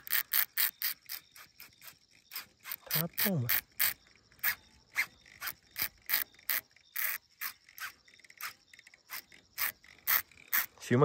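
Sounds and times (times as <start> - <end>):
fishing reel drag clicking: 0.0 - 10.8.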